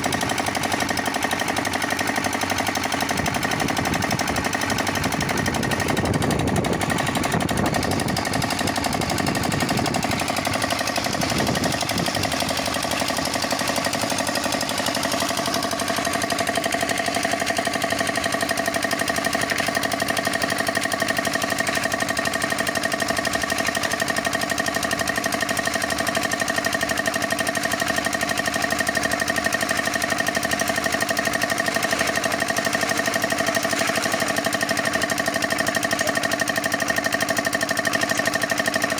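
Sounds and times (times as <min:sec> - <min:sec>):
concrete mixer rattling: 0:00.0 - 0:38.9.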